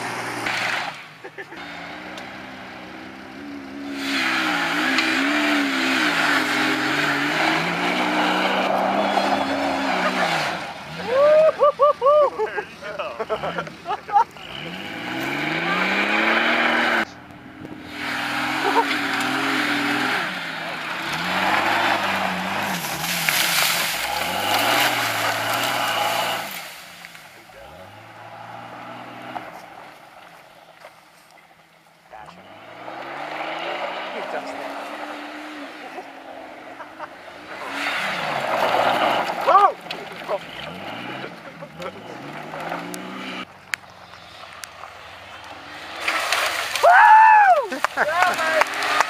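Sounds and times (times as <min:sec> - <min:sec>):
engine revving: 0:00.0 - 0:11.5, 0:12.8 - 0:30.0, 0:32.1 - 0:47.0, 0:47.7 - 0:49.0
tyres spinning in dirt: 0:00.0 - 0:31.1, 0:32.4 - 0:49.0.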